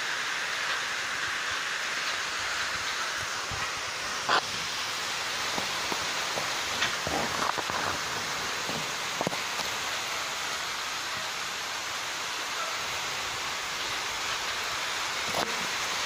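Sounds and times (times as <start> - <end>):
close rain taps: 0.0 - 16.0
steady rain hiss: 0.0 - 16.0.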